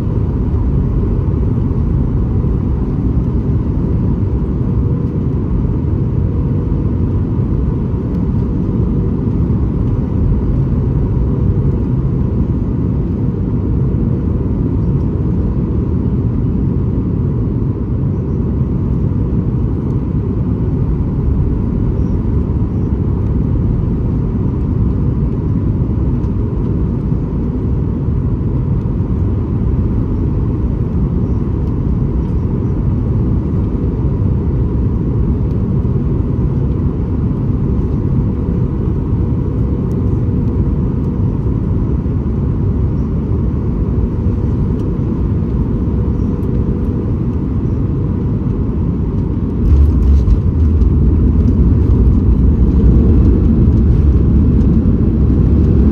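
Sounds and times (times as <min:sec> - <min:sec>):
aircraft cabin engine rumble: 0:00.0 - 0:55.9.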